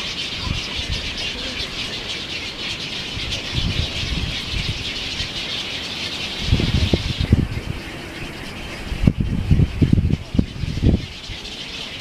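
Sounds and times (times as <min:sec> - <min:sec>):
chorus of many birds calling: 0:00.0 - 0:12.0.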